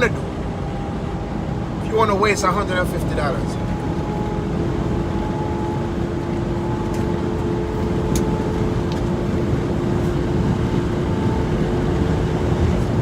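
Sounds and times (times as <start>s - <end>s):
truck engine rumble in cab: 0.0s - 13.0s.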